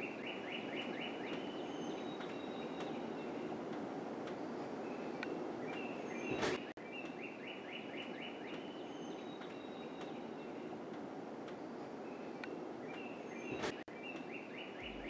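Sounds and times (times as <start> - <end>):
small birds chirping: 0.0 - 10.9, 11.6 - 15.0.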